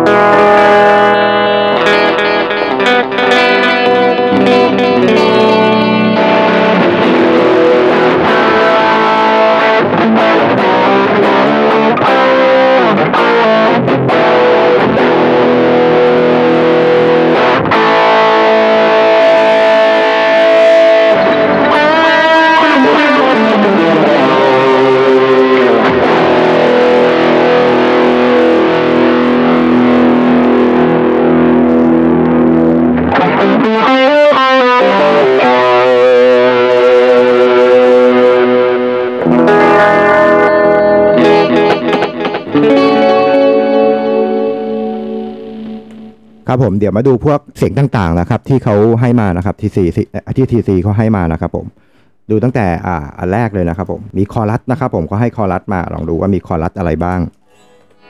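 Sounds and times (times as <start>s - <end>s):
electric guitar playing: 0.0s - 46.5s.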